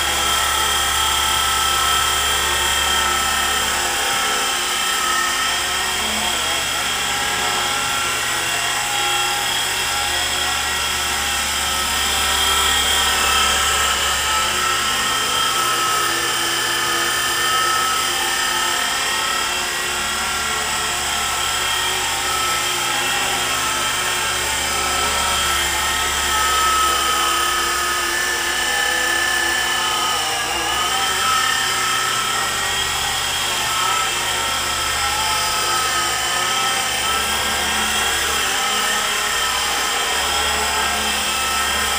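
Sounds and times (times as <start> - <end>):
rc helicopter motor whine: 0.0 - 41.9.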